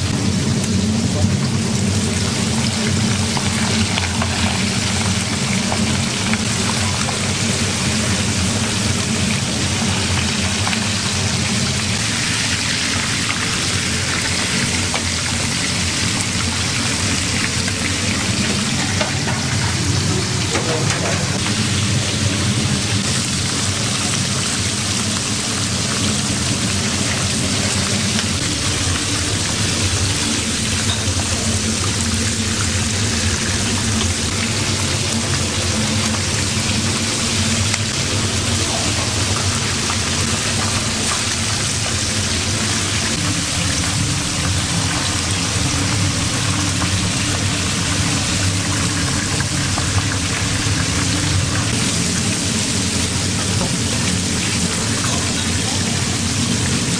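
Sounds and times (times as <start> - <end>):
food sizzling in a pan: 0.1 - 56.9.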